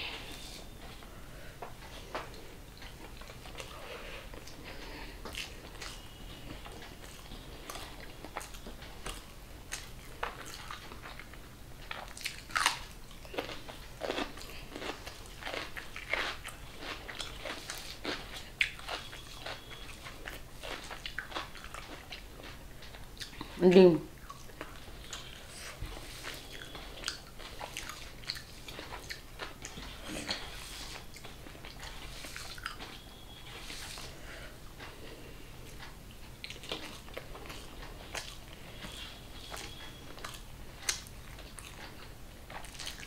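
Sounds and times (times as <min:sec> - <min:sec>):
chewing and mouth smacks: 0:01.7 - 0:23.6, 0:24.2 - 0:34.1, 0:35.6 - 0:43.0.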